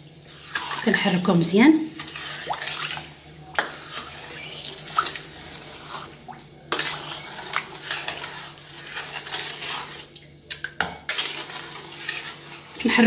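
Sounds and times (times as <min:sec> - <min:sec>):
liquid sloshing in pot: 0:00.2 - 0:12.8.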